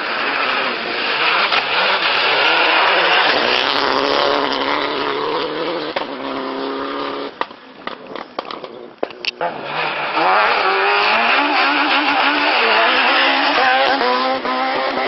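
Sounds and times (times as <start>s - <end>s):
rally car engine driving by: 0.0s - 15.0s.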